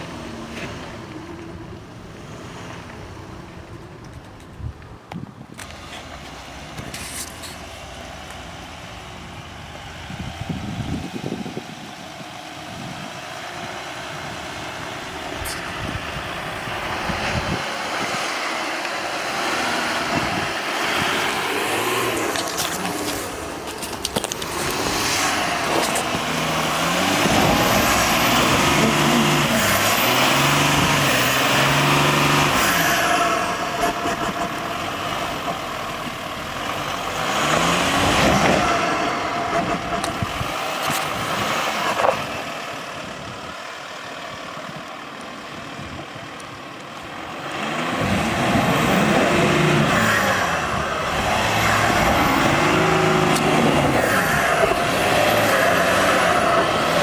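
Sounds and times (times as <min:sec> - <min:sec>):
diesel engine revving: 0:00.0 - 0:04.1, 0:05.6 - 0:57.0.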